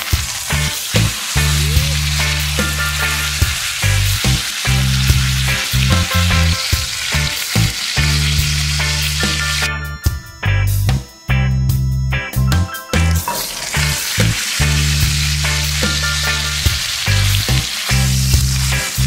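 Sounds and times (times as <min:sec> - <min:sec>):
steak sizzling in a skillet: 0:00.0 - 0:09.7, 0:13.2 - 0:19.0
background music with deep bass: 0:00.0 - 0:19.0.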